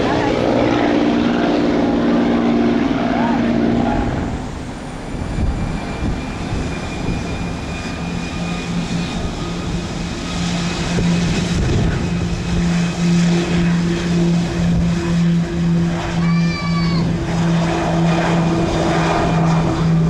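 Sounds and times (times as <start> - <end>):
high turbine whine: 0.0 - 20.0
propeller engines droning: 0.0 - 20.0.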